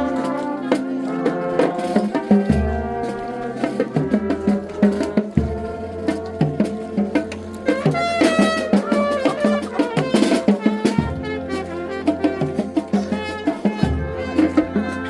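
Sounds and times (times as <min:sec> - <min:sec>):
band music with steady beat: 0:00.0 - 0:15.0.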